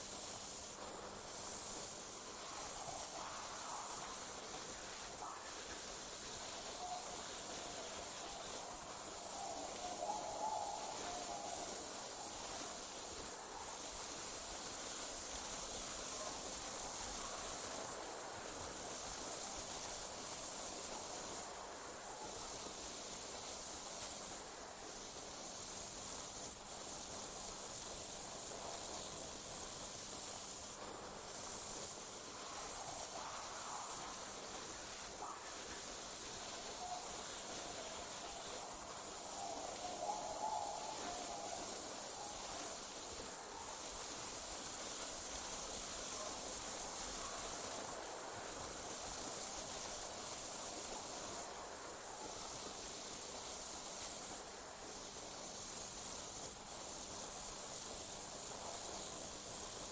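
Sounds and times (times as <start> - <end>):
insects trilling: 0.0 - 21.5, 22.1 - 59.9.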